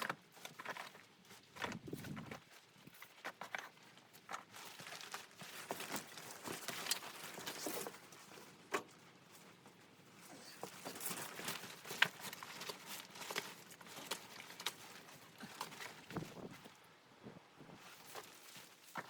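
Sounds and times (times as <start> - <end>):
crunching and rustling: 0.0 - 19.0.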